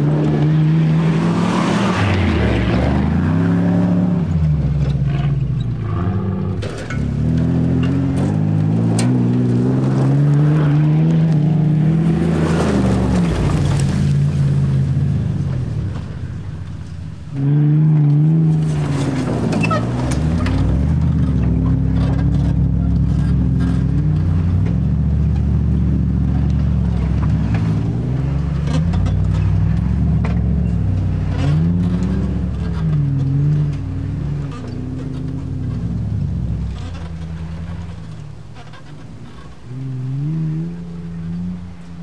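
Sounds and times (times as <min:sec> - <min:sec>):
off-road engine revving: 0:00.0 - 0:42.0.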